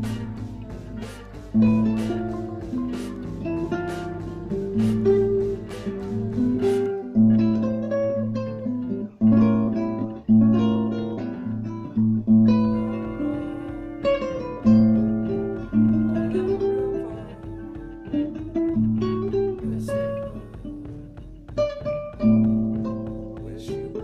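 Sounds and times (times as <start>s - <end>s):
low bass line: 0.0s - 21.2s
plucked guitar music: 0.0s - 24.0s.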